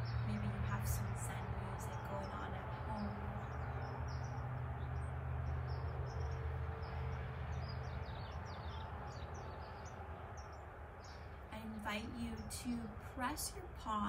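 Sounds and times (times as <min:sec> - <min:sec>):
small songbirds chirping: 0:00.0 - 0:13.6
steady low hum: 0:00.0 - 0:14.0.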